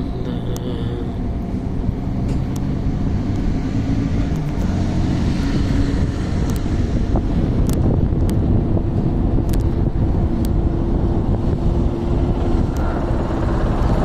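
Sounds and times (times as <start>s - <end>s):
heavy machinery engine rumbling: 0.0s - 14.0s.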